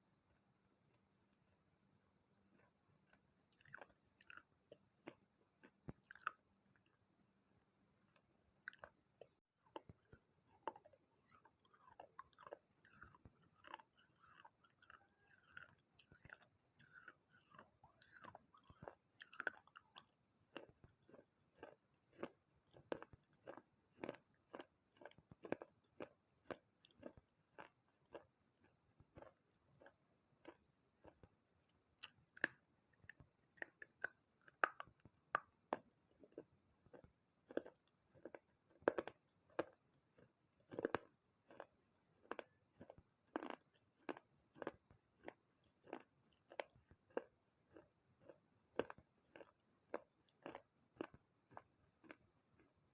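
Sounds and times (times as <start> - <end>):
crunchy chewing of clay: 2.4 - 7.0, 8.1 - 52.9.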